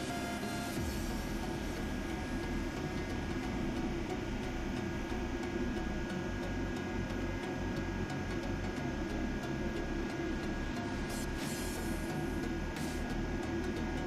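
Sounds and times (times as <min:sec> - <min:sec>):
machinery hum and hiss: 0:00.0 - 0:14.0.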